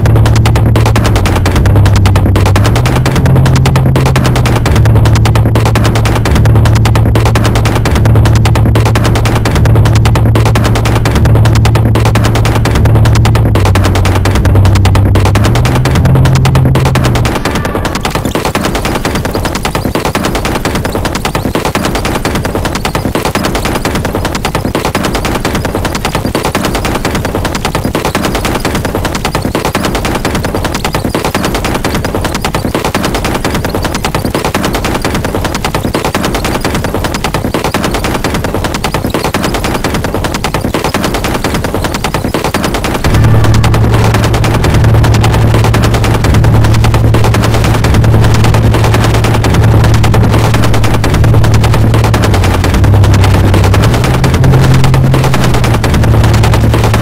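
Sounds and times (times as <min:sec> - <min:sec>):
harsh distorted noise music: 0:00.0 - 0:57.0.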